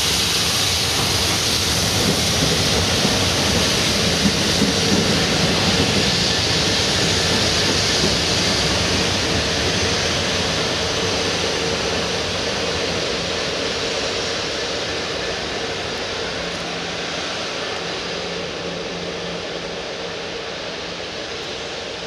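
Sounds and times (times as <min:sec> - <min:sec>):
locomotive engine hum: 0:00.0 - 0:22.0
rushing rail noise: 0:00.0 - 0:22.0.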